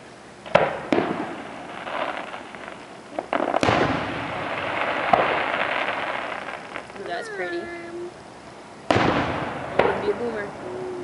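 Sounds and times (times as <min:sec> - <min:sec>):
fireworks bangs: 0:00.0 - 0:08.2, 0:08.8 - 0:11.0.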